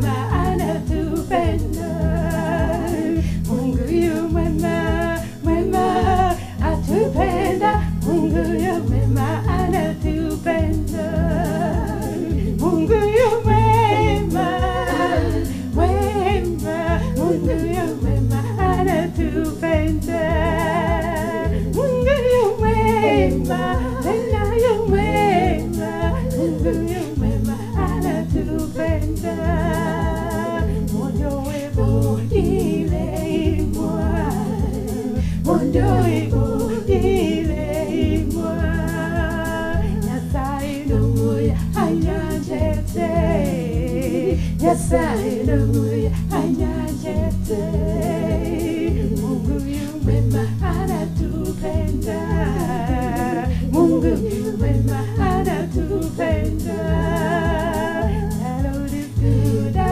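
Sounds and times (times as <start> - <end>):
bass and drum backing track: 0.0 - 59.9
woman singing gospel song: 0.0 - 59.9.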